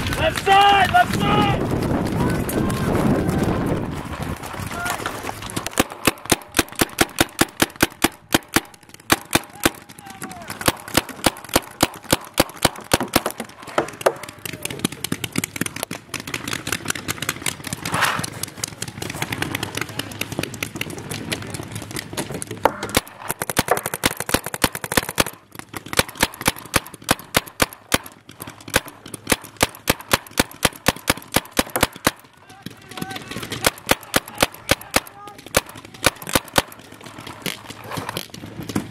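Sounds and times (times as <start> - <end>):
distant paintball shots: 0.0 - 38.9
paintball markers firing: 0.0 - 38.9.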